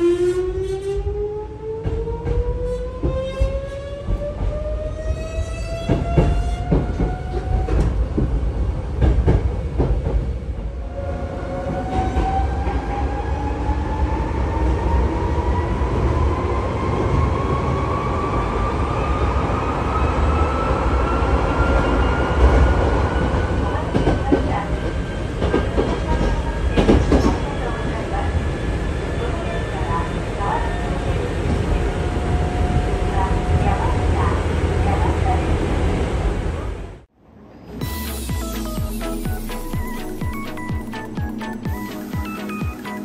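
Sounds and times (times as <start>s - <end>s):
low train rumble: 0.0s - 43.0s.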